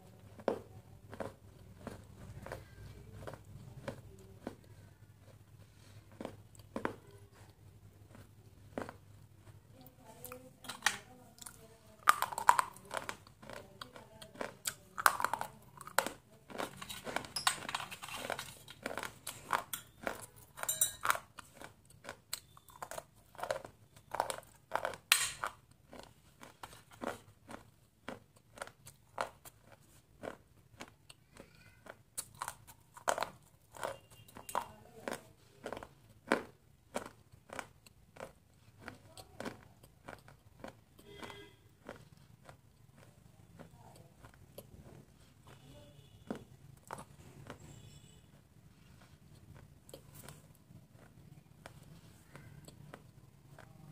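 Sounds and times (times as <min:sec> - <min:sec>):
crunchy chewing: 0:00.0 - 0:53.9.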